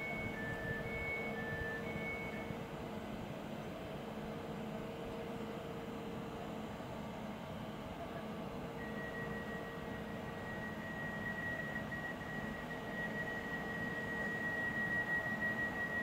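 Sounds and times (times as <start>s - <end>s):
electric train high-pitched whine: 0.0s - 16.0s
low train running noise: 0.0s - 16.0s.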